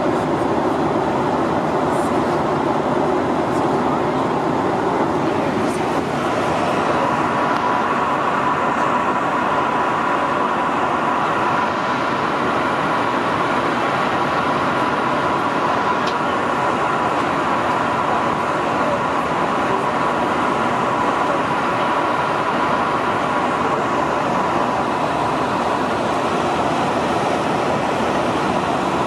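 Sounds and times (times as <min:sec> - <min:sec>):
airflow rush in aircraft cabin: 0:00.0 - 0:29.0
faint steady whine: 0:00.0 - 0:29.0
jet engine noise: 0:00.0 - 0:29.0.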